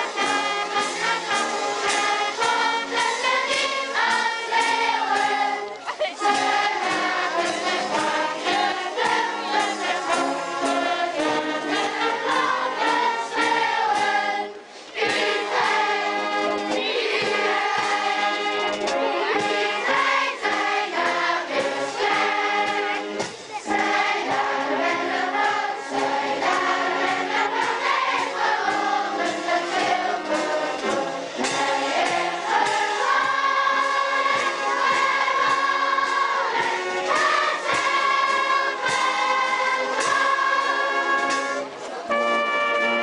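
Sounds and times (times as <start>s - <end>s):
choir singing long held notes: 0.0s - 43.0s.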